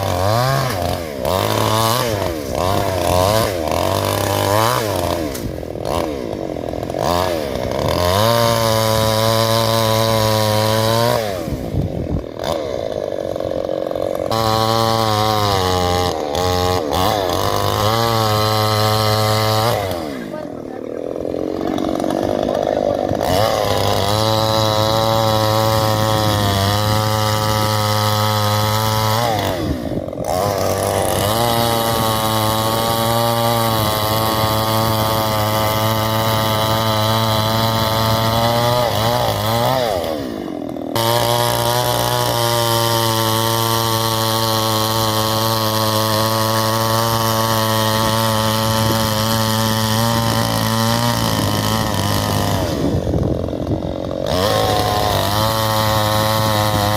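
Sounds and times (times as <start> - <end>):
chainsaw cutting tree trunk: 0.0 - 56.9.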